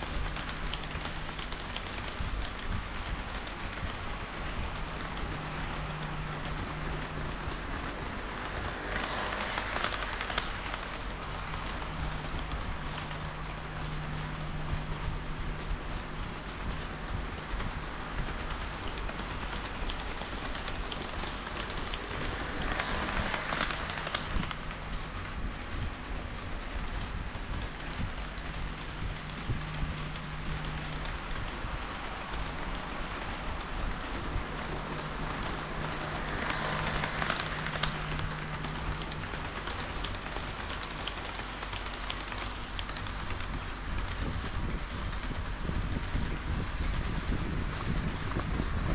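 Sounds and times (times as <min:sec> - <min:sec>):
model train wheels clicking: 0:00.0 - 0:48.9.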